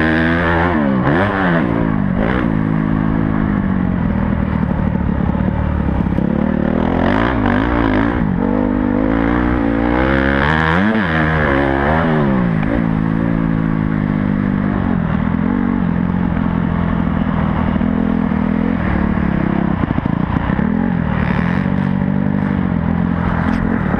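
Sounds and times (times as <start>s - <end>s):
motocross bike engine revving: 0.0s - 23.9s.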